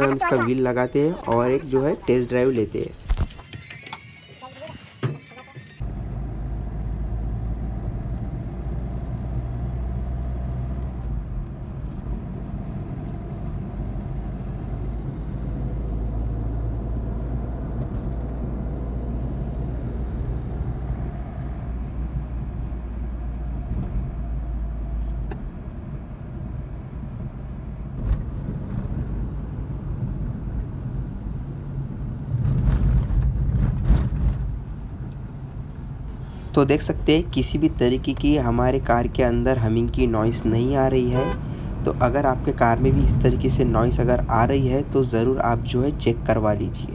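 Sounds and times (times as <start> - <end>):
tyre and engine rumble: 0.0 - 46.9.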